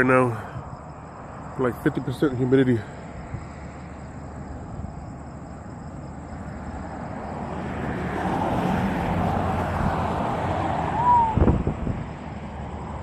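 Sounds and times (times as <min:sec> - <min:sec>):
passing road vehicle: 0:00.0 - 0:13.0.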